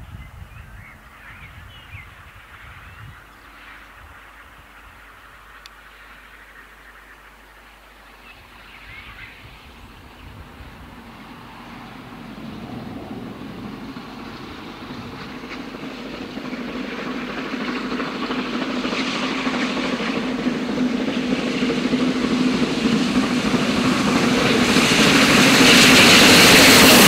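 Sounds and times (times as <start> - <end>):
steam locomotive passing: 0.8 - 27.0.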